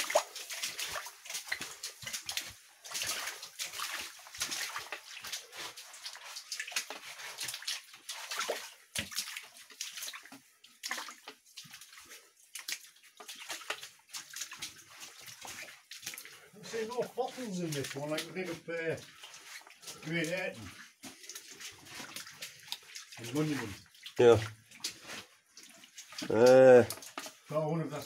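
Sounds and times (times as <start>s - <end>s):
footsteps splashing in water: 0.0s - 28.0s.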